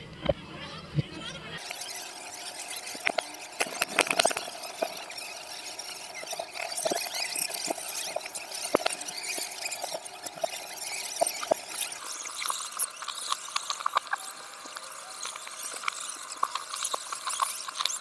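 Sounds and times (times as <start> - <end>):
steady hiss: 1.6 - 18.0
thin squealing tone: 1.6 - 18.0.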